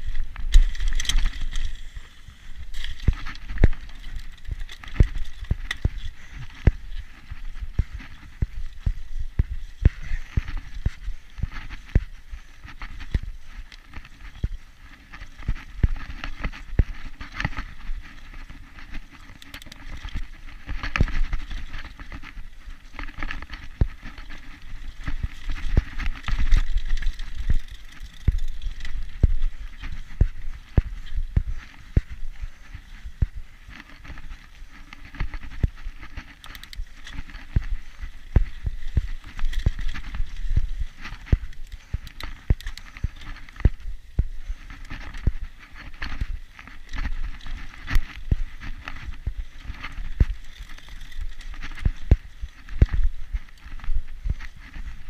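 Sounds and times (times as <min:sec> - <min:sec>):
bike knocks and rattles: 0:00.0 - 0:02.0, 0:02.6 - 0:55.0
wind rumble on microphone: 0:00.0 - 0:55.0.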